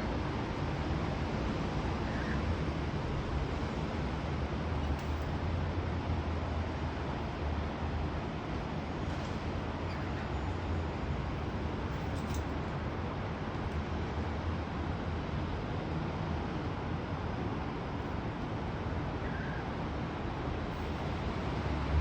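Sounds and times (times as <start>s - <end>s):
background rumble and hiss: 0.0s - 22.0s.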